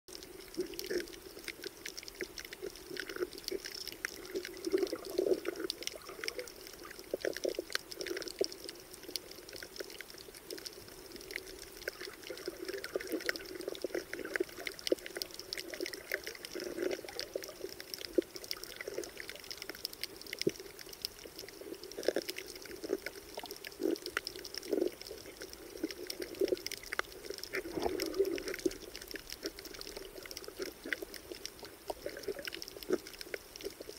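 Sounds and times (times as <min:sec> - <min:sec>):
underwater clicks and crackles: 0:00.1 - 0:33.9.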